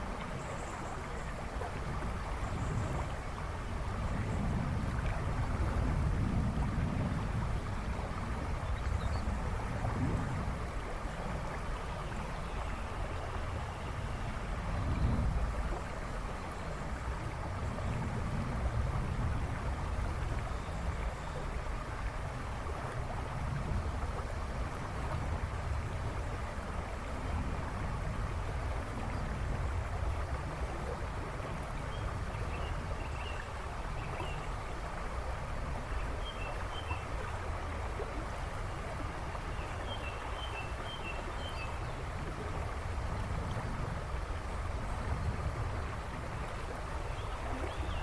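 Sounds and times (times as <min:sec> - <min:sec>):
river rushing and babbling: 0:00.0 - 0:48.0.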